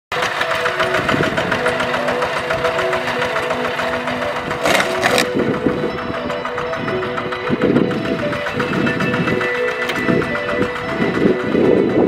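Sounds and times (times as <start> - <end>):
diesel engine chugging: 0.1 - 12.0.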